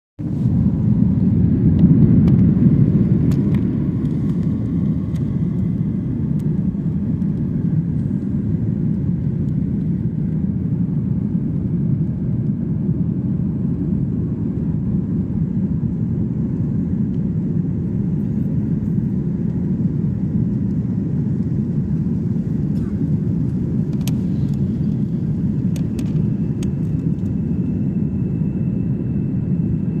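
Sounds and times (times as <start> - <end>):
jet engines rumbling in cabin: 0.2 - 30.0.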